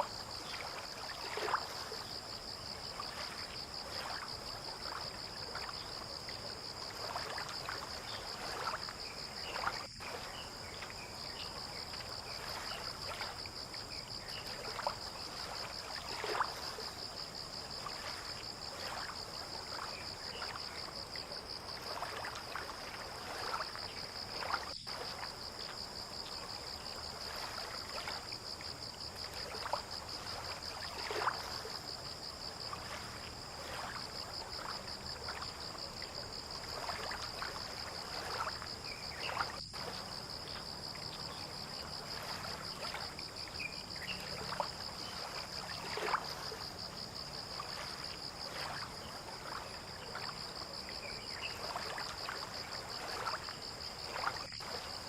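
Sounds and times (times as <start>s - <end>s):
high insect trill: 0.0s - 55.0s
water splashing and lapping: 0.0s - 55.0s.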